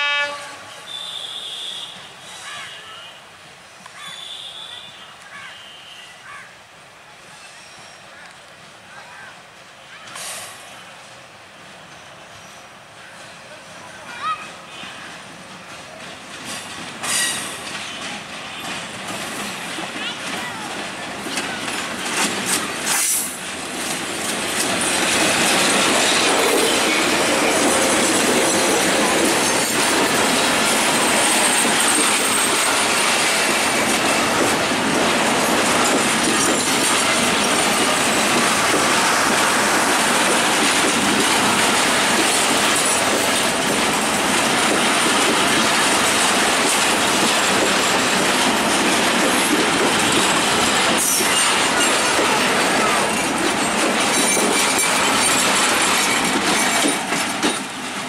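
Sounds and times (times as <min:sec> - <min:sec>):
train wheels rolling on rails: 0:06.6 - 0:58.0.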